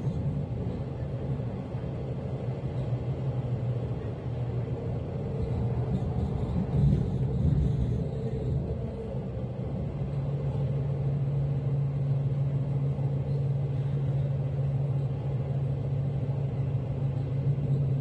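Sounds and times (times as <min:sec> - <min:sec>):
low steady hum: 0:00.0 - 0:18.0
train rumble: 0:00.0 - 0:18.0.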